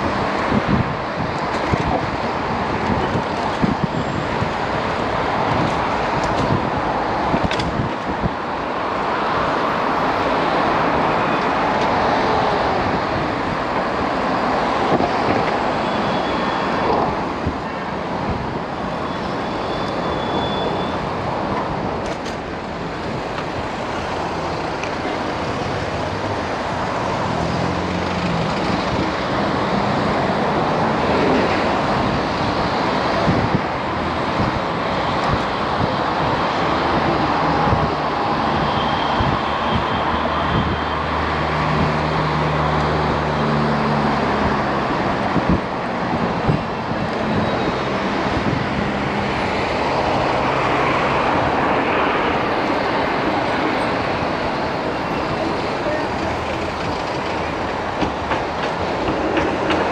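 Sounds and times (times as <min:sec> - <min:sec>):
road traffic passing close: 0:00.0 - 0:59.9.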